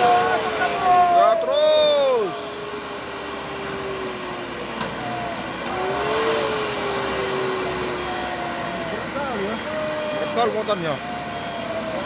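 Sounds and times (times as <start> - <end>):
diesel truck engine labouring: 0.0 - 12.0.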